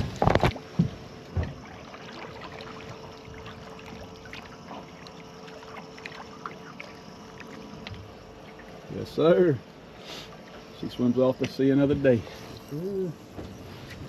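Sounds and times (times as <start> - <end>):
water lapping against boat hull: 0.0 - 14.0
faint steady tone: 0.3 - 14.0.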